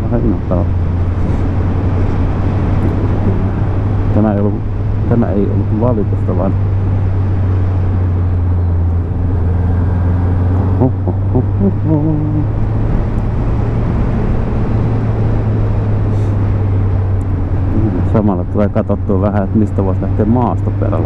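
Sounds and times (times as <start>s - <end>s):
wind noise: 0.0s - 18.2s
motorcycle engine cruising: 0.0s - 21.0s.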